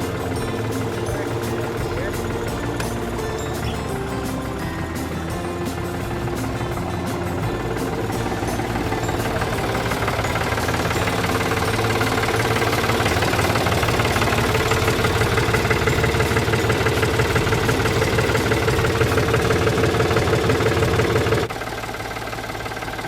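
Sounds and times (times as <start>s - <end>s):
tractor diesel engine idling: 0.0s - 23.0s.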